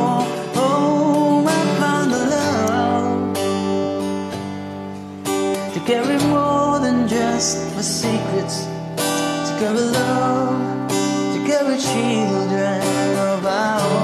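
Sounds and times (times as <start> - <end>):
man singing: 0.0 - 4.2, 5.6 - 14.0
guitar strummed: 0.0 - 14.0.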